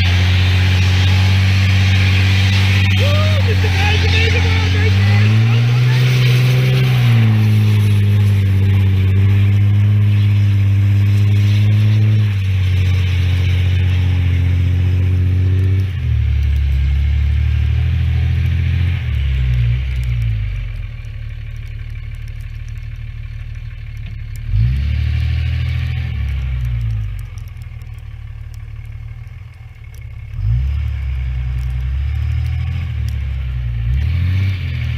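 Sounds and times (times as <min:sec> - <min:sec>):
vehicle engine under load: 0:00.0 - 0:34.9.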